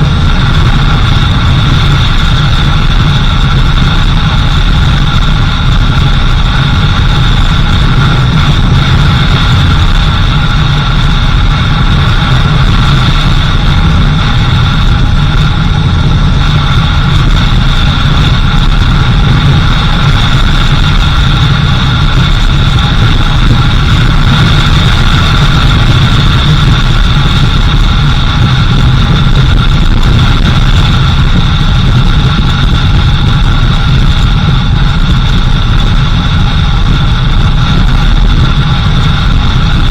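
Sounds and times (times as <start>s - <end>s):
car engine running: 0.0s - 39.9s
road noise: 0.0s - 39.9s
steady whine: 0.0s - 39.9s.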